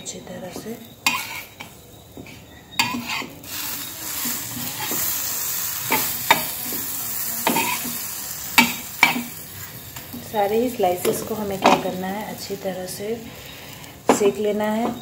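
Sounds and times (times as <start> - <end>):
bread sizzling in butter: 0.7 - 15.0.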